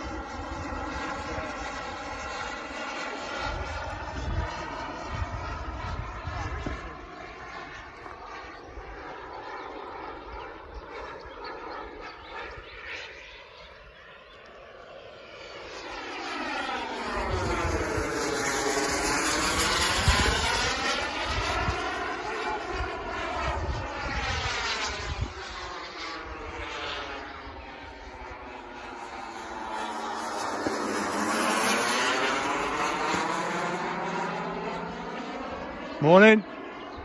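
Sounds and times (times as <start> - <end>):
jet turbine whooshing overhead: 0.0 - 37.0.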